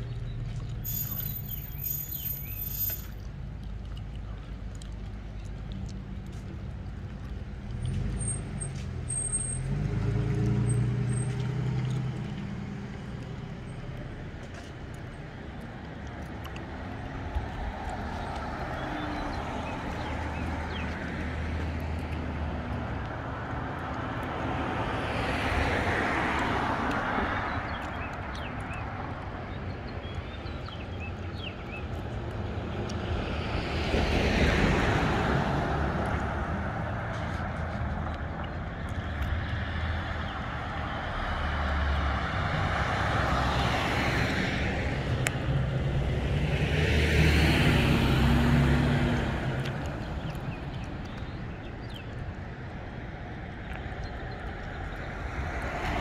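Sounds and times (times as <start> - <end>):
cars passing: 0.0 - 56.0
vehicle engine humming: 0.0 - 56.0.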